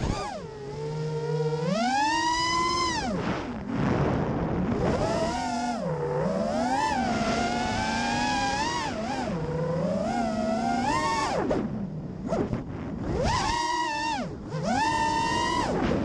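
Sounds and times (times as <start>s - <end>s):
short motor blips: 0.0s - 3.6s, 4.7s - 16.0s
drone motors whining: 0.0s - 16.0s.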